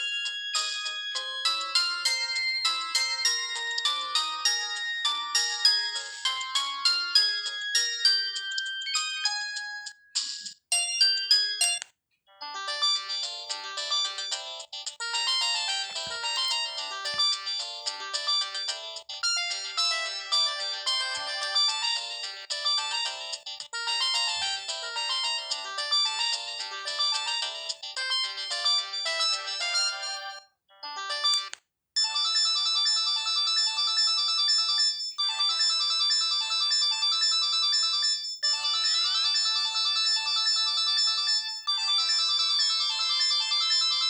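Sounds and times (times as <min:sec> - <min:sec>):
phone polyphonic ringtone melody: 0:00.0 - 0:44.0.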